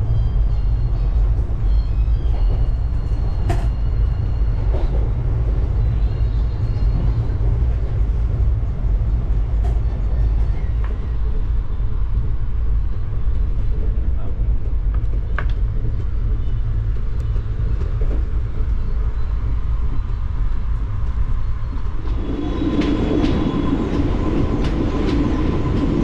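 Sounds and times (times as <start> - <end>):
low rumble of running train: 0.0 - 26.0.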